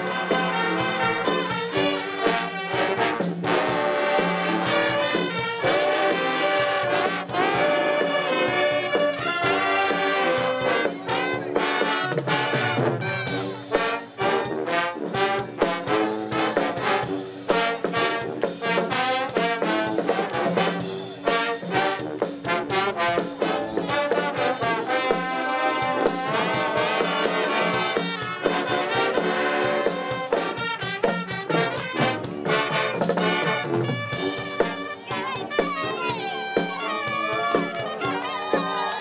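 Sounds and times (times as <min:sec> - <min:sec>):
brass trumpets and trombones: 0:00.0 - 0:39.0
steady drum beat: 0:00.0 - 0:39.0.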